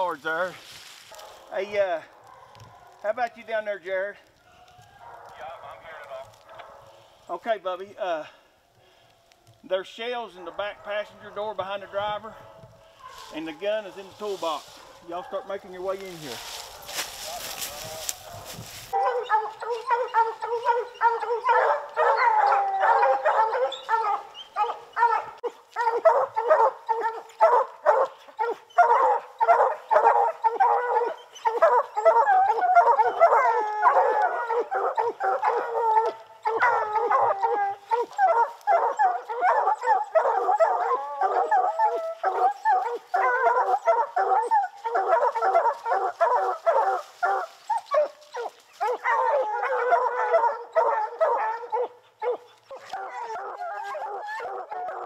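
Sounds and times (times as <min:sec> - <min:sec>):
hounds barking: 0:00.0 - 0:07.3, 0:09.7 - 0:55.0
hounds bawling: 0:10.0 - 0:55.0.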